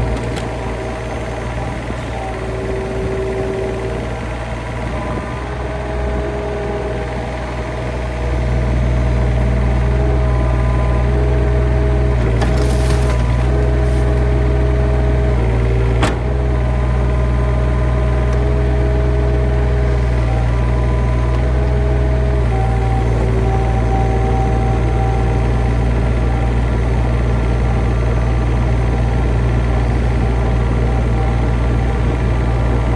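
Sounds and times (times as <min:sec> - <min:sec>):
heavy engine running: 0:00.0 - 0:32.9.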